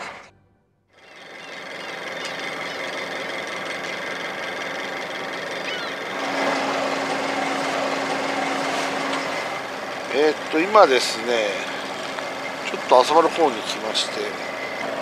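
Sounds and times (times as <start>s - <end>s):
boat engine running at low revs: 1.0s - 15.0s.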